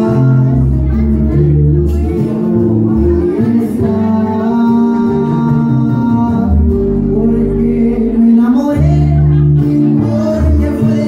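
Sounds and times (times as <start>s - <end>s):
music with singing over bass: 0.0s - 11.0s.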